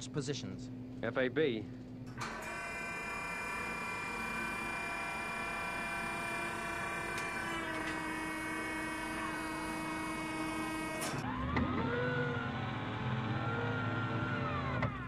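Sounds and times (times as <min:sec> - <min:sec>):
sci-fi craft engine whine: 0:02.2 - 0:15.0.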